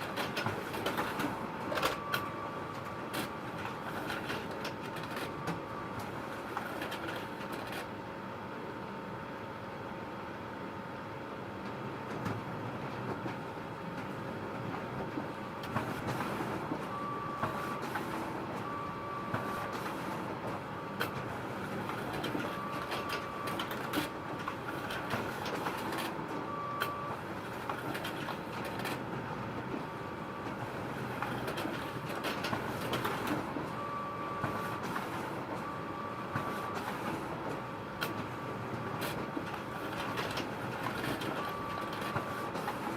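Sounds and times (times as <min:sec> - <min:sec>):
photocopier whirring: 0:00.0 - 0:08.0, 0:14.8 - 0:42.9.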